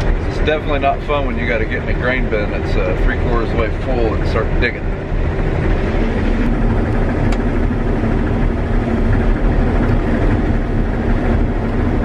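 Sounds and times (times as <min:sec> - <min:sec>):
combine harvester engine hum: 0:00.0 - 0:12.0.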